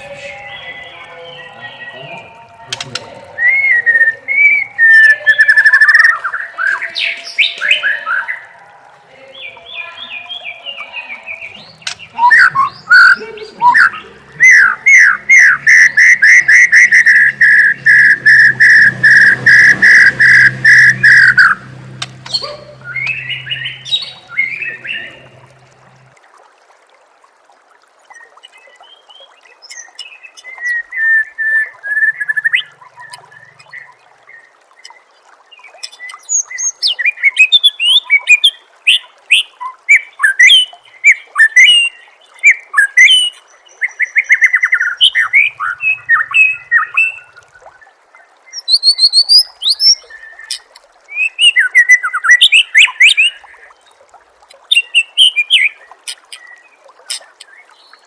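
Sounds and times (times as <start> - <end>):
songbird singing: 0.0 - 26.2, 28.0 - 58.0.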